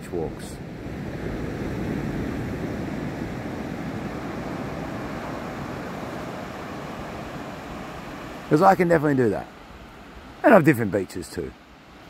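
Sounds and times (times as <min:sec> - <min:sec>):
small waves breaking on beach: 0:00.1 - 0:10.7, 0:11.4 - 0:12.0.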